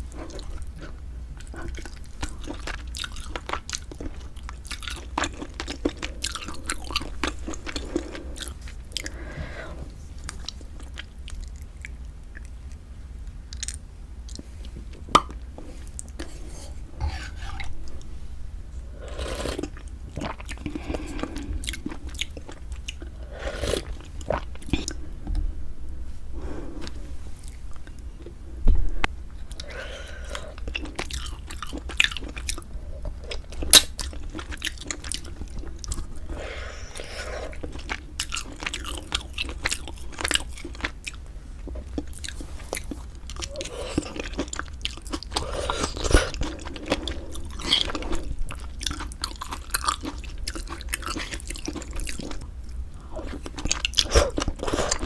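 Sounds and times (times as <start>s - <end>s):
chewing and wet mouth sounds: 0.1s - 9.4s, 10.2s - 18.1s, 19.0s - 25.4s, 29.3s - 55.0s.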